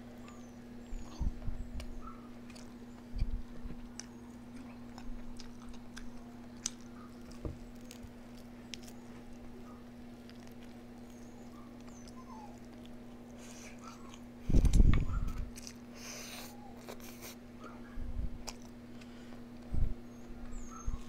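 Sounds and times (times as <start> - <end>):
steady low hum: 0.0 - 21.0
soft eating clicks: 0.1 - 17.8, 18.4 - 21.0
person chewing food: 0.3 - 17.8, 18.4 - 19.7.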